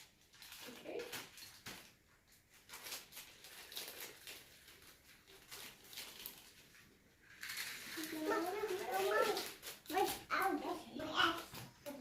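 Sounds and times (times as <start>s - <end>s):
package rustling and crinkling: 0.0s - 12.0s.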